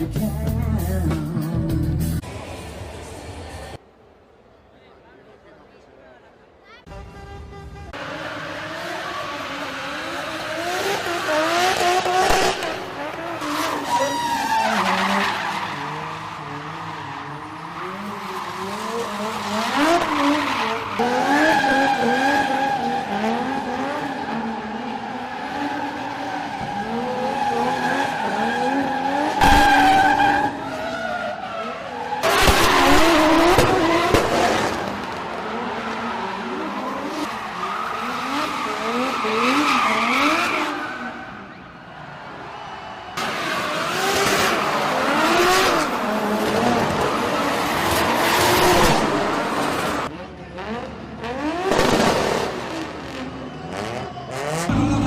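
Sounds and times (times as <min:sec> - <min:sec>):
bursts of tyre noise: 0:06.9 - 0:55.0
car engine revving: 0:07.9 - 0:41.3, 0:43.2 - 0:55.0.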